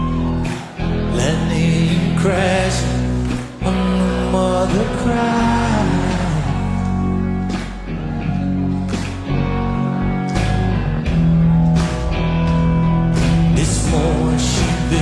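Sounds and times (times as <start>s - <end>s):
bass guitar: 0.0s - 15.0s
electric guitar: 0.0s - 15.0s.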